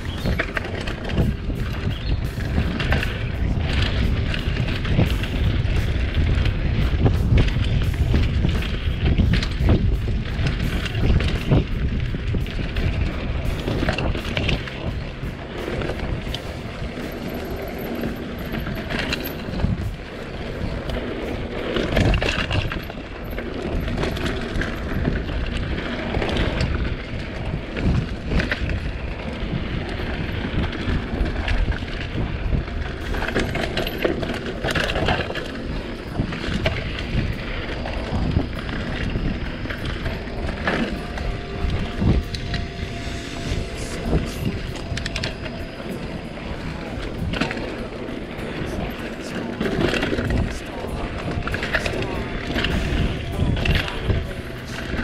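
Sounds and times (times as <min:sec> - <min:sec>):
bike rattling and knocking: 0:00.0 - 0:55.0
bike tyre rumble: 0:00.0 - 0:55.0
wind rushing on microphone: 0:00.0 - 0:55.0.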